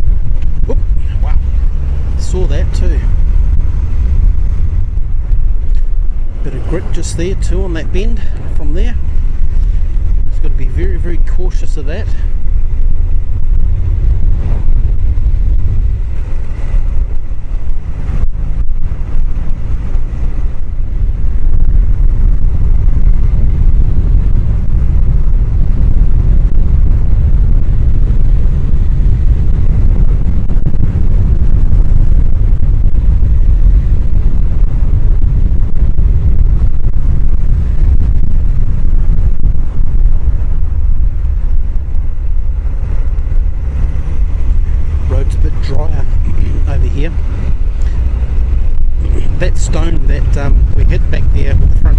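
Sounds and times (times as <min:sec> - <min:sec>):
wind buffeting helmet microphone: 0:00.0 - 0:51.9.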